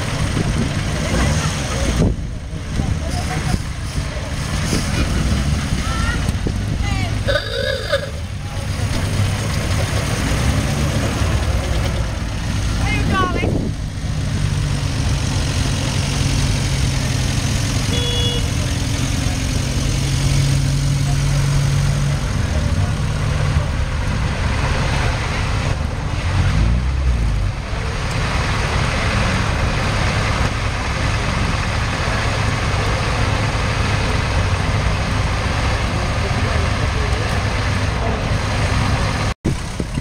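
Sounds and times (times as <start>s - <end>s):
car engines droning: 0.0s - 40.0s.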